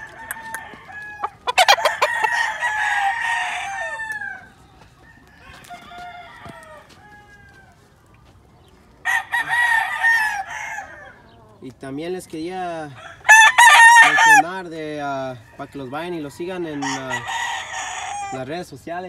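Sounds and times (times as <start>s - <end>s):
roosters crowing: 0.0s - 11.6s, 12.5s - 18.8s.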